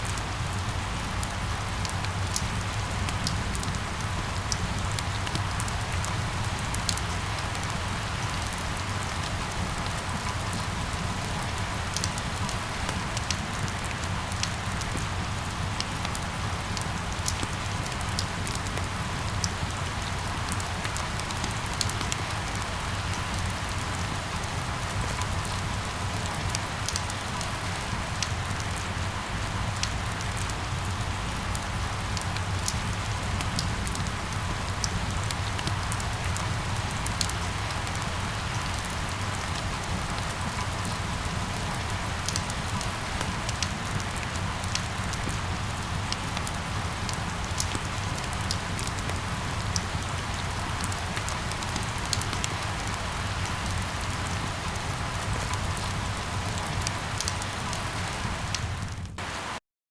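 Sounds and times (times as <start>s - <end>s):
rain on hard surfaces: 0.0s - 59.6s.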